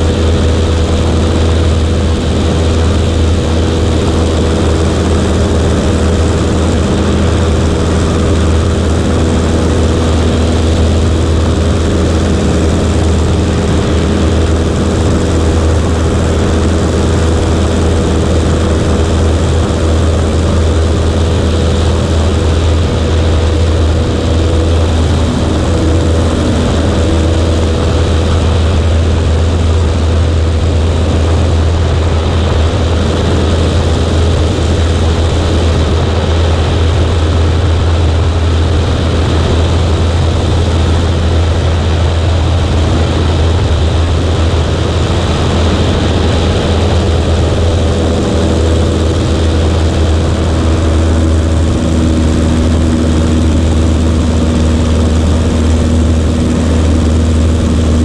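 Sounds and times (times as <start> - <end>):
low hum: 0.0 - 58.0
propeller plane engine drone: 0.0 - 58.0.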